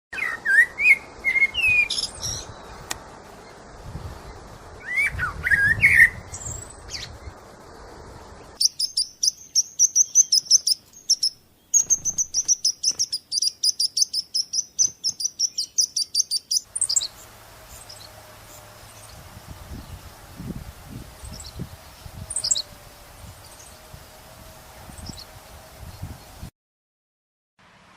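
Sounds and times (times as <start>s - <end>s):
birds chirping: 0.1s - 26.5s.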